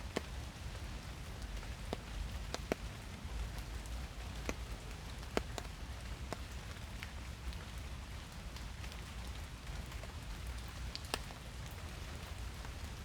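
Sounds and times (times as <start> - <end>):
rain falling through trees: 0.0 - 13.0
raindrops tapping close by: 0.0 - 13.0.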